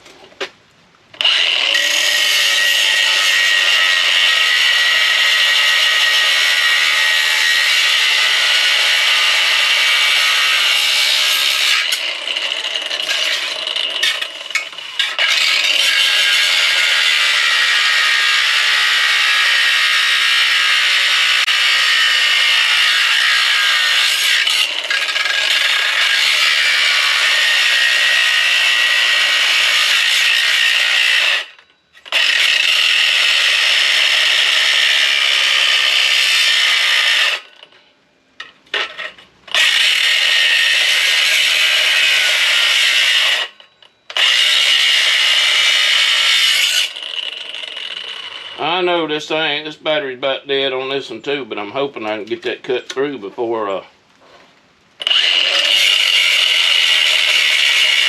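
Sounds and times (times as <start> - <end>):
power tool cutting metal: 1.2 - 37.7, 38.7 - 48.8, 55.0 - 58.0.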